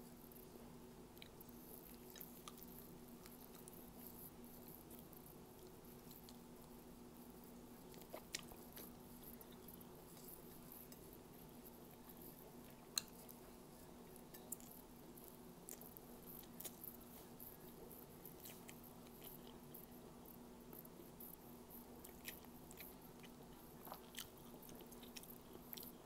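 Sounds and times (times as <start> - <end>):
low steady hum: 0.0 - 26.0
person chewing: 1.2 - 6.8, 7.8 - 20.0, 21.9 - 26.0.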